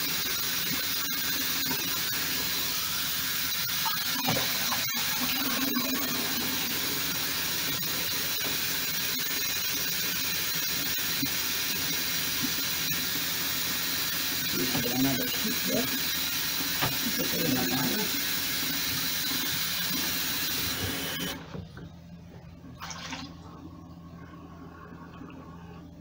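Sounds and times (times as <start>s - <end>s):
tap water running into sink: 0.2s - 21.5s.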